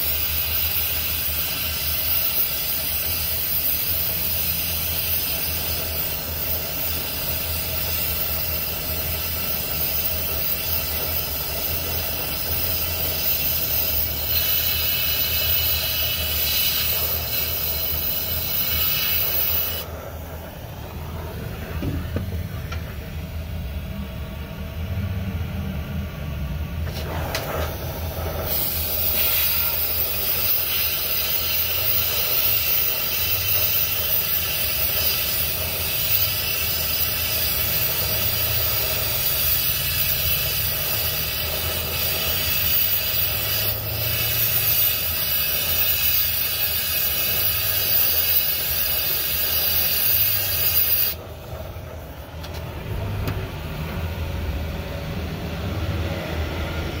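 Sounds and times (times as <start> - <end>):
gas torch running: 0.0 - 57.0
loud steady gas hiss: 0.0 - 57.0.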